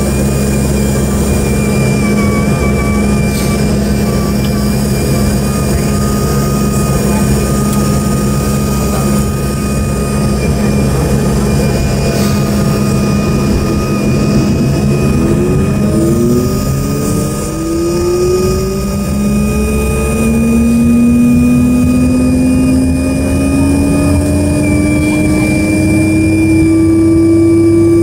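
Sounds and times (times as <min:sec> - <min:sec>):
aircraft cabin hum: 0:00.0 - 0:28.0
high whine tones: 0:00.0 - 0:28.0
jet engine spooling up: 0:00.0 - 0:28.0.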